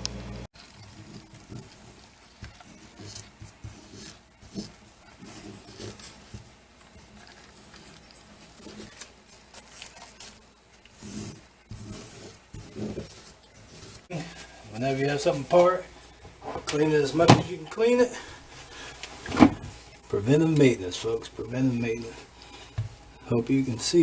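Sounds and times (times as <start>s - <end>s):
parts tapping and rustling: 0.6s - 21.3s, 22.0s - 23.3s.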